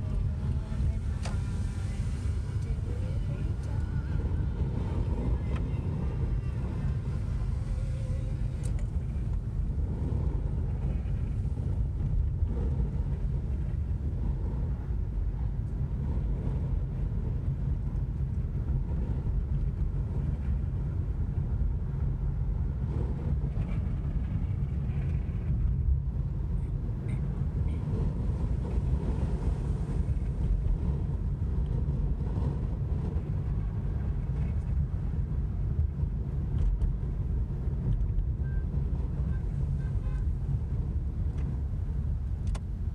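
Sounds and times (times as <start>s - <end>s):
gusty wind on microphone: 0.0s - 42.9s.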